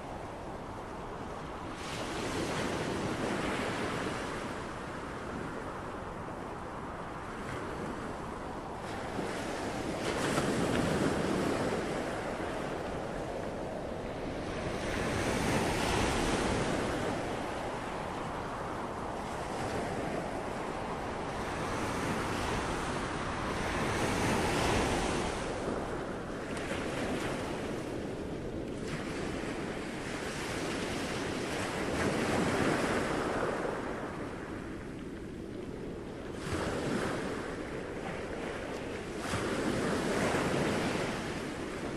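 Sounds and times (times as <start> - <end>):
ocean surf washing: 0.0 - 41.9.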